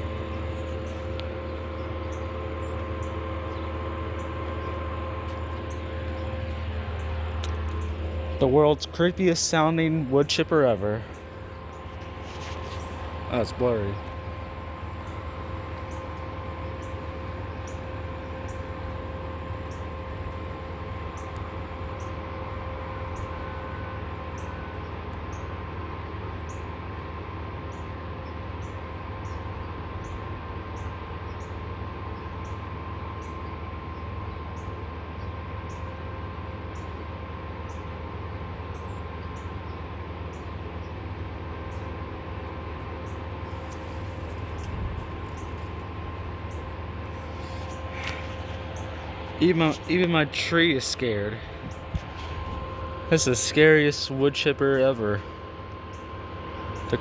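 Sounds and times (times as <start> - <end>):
wood chipper running: 0.0 - 57.0.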